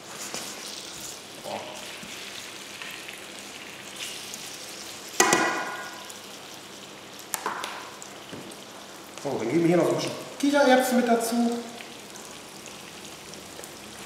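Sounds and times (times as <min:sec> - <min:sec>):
rice sizzling in a pan: 0:00.0 - 0:14.0.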